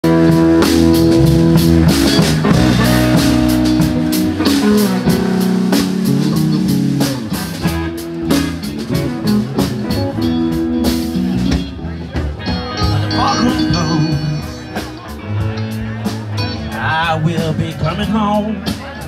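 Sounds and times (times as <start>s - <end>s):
drum kit with cymbals: 0.0s - 19.0s
electric guitar: 0.0s - 19.0s.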